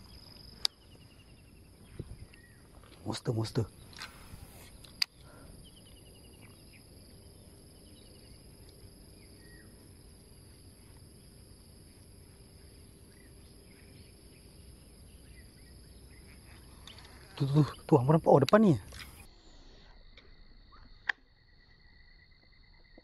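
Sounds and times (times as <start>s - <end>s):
faint bird chirps: 0.0s - 11.4s, 12.3s - 23.0s
high-pitched insect drone: 0.0s - 23.0s.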